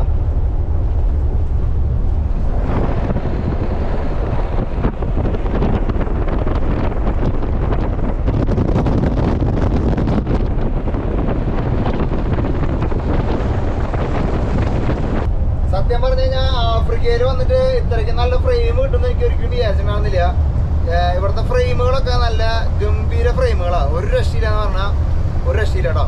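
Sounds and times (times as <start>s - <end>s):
bus rumbling: 0.0s - 26.0s
wind buffeting microphone: 0.0s - 26.0s.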